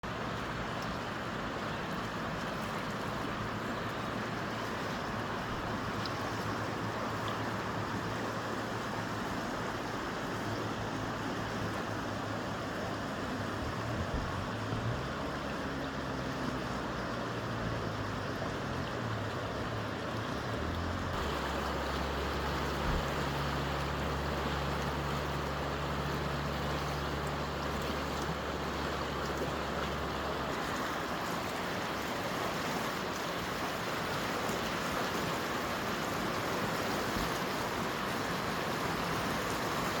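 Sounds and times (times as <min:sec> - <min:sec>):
river water rushing: 0:00.0 - 0:40.0
low steady rumble: 0:00.1 - 0:32.1.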